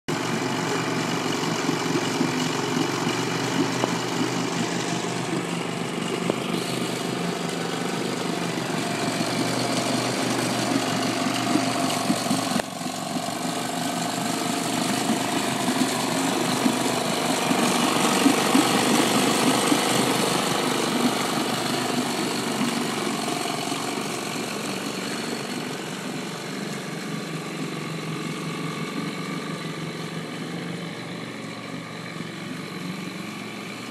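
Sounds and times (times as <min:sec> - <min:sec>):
outboard motor running: 0:00.1 - 0:33.9.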